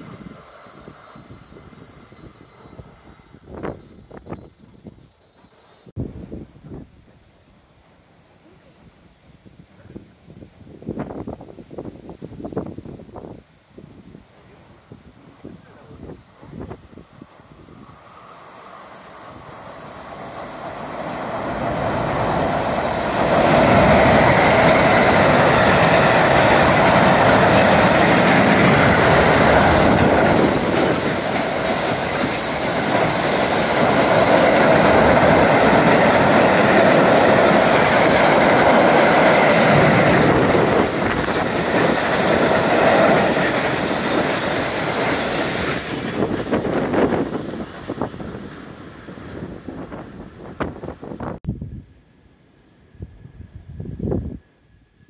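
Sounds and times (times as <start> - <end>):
freight train on steel bridge: 0.0 - 55.0.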